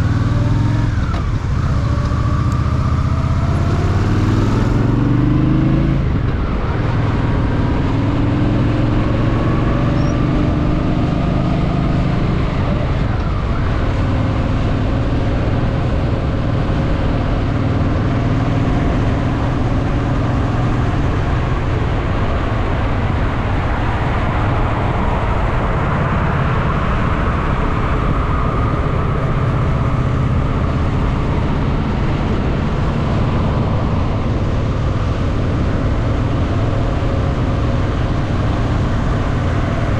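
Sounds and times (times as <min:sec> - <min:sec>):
motorcycle engine cruising: 0:00.0 - 0:39.9
road noise: 0:00.0 - 0:39.9.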